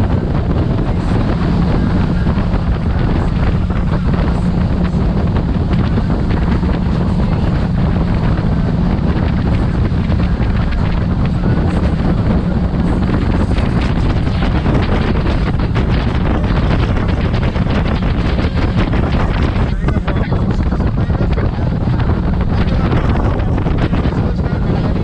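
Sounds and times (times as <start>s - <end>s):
speedboat engines droning: 0.0s - 25.0s
wind buffeting microphone: 0.0s - 25.0s.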